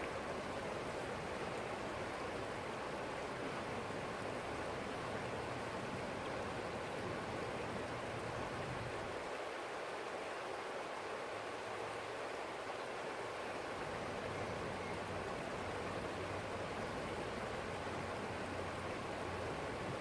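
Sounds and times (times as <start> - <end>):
small stream babbling: 0.0 - 20.0.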